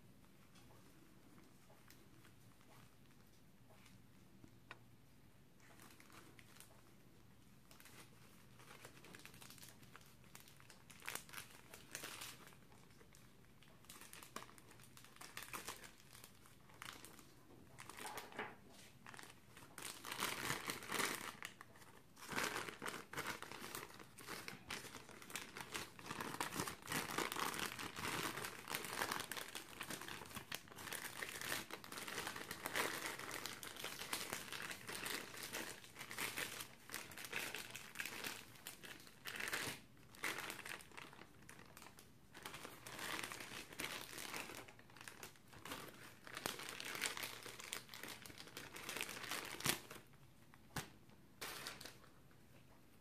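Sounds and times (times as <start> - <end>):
plastic bag crinkling: 7.6 - 52.2.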